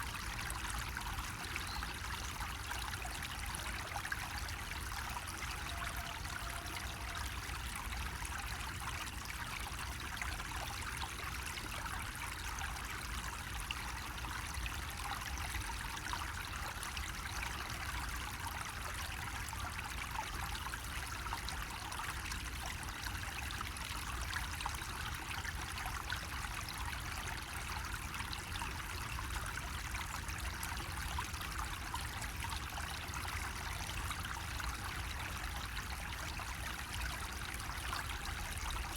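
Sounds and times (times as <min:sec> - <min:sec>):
water trickling from a faucet: 0:00.0 - 0:38.9.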